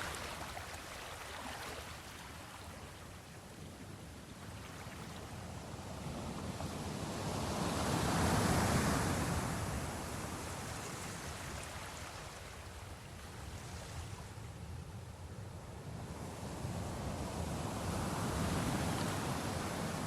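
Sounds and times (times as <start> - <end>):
ocean waves breaking on shore: 0.0 - 20.0.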